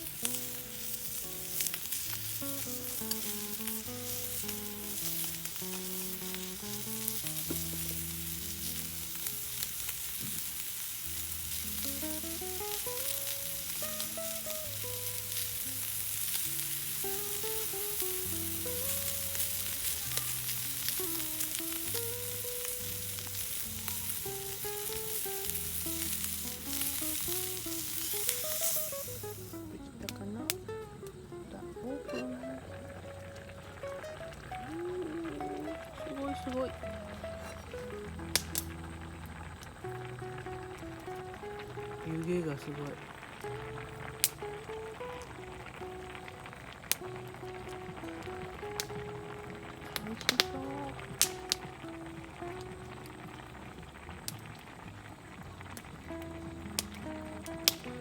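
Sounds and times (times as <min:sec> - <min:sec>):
food sizzling in a pan: 0:00.0 - 0:58.0
soft plucked background music: 0:00.0 - 0:58.0.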